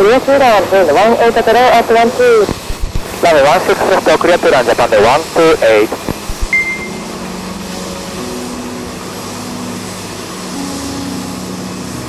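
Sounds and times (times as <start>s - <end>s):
jet engines rushing and humming: 0.0s - 12.0s.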